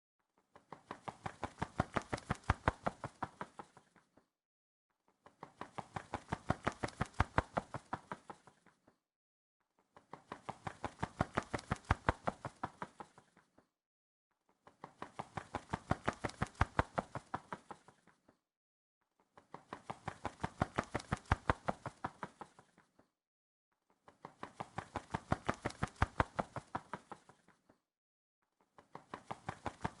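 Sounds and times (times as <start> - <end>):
bird wings flapping: 0.4 - 4.3, 5.1 - 9.0, 9.8 - 13.7, 14.5 - 18.4, 19.2 - 23.1, 23.9 - 27.8, 28.6 - 30.0.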